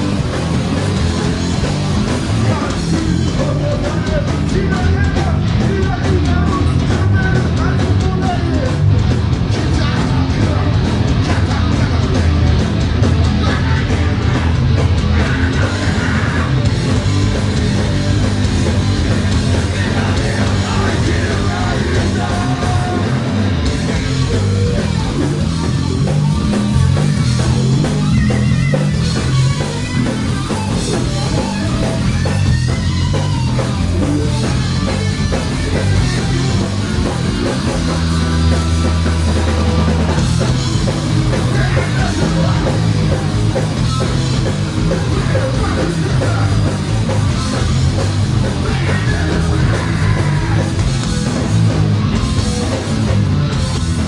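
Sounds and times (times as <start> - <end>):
heavy rock music: 0.0 - 54.0.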